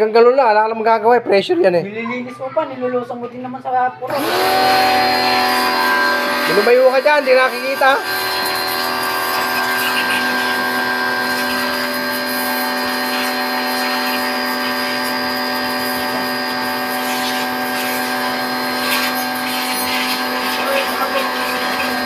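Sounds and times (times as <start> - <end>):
pressure washer motor humming: 4.1 - 22.0
water jet hissing: 4.2 - 22.0.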